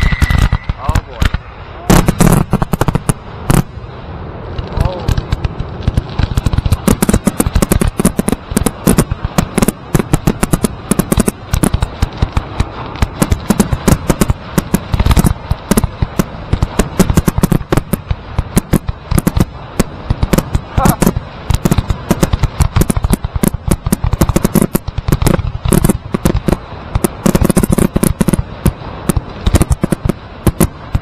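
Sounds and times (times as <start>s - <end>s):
firework shells bursting: 0.0s - 3.8s, 4.5s - 31.0s.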